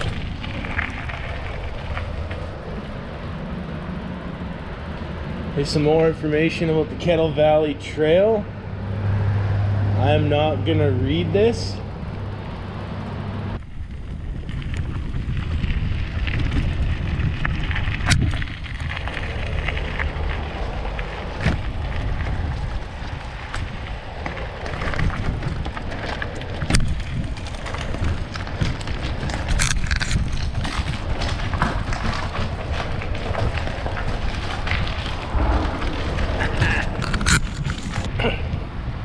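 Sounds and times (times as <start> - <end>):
bicycle tyre and frame noise: 0.0 - 39.0
wind buffeting microphone: 0.0 - 39.0.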